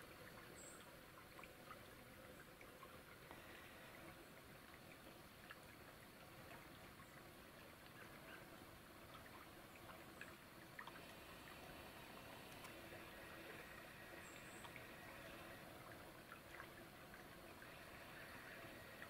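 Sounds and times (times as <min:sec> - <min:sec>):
soft even hiss: 0:00.0 - 0:19.0.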